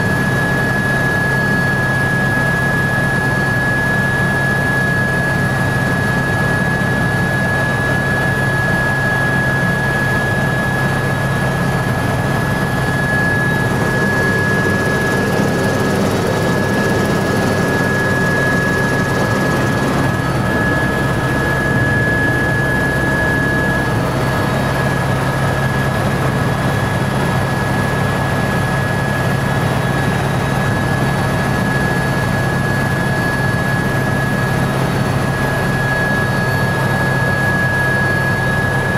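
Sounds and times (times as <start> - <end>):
constant high whine: 0.0 - 38.9
helicopter engine and rotor drone: 0.0 - 38.9.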